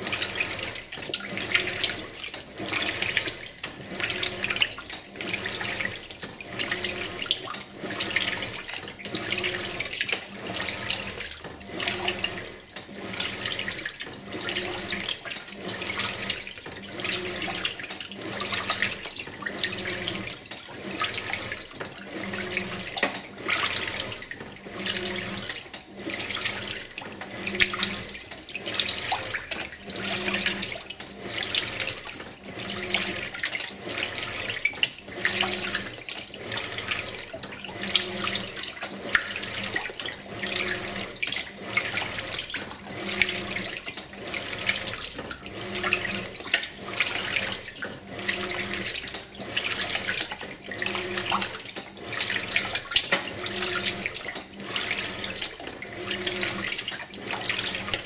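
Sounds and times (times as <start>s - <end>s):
washer motor humming: 0.0s - 58.0s
water sloshing in washer: 0.0s - 58.0s.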